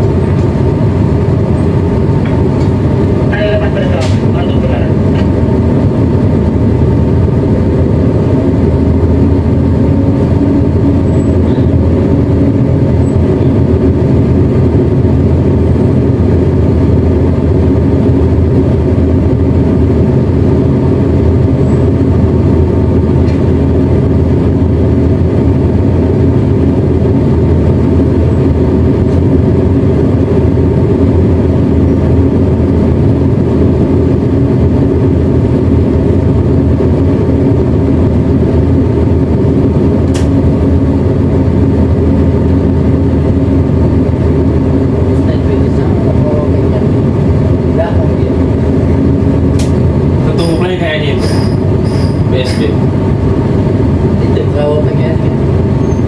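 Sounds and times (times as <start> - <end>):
boat diesel engine droning: 0.0 - 56.0.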